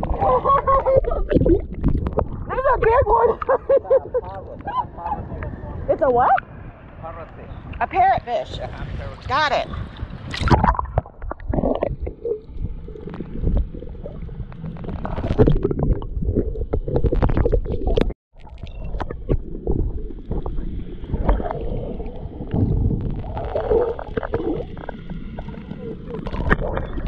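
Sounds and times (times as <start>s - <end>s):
muffled underwater sloshing and bubbling: 0.0s - 6.6s, 8.8s - 27.0s.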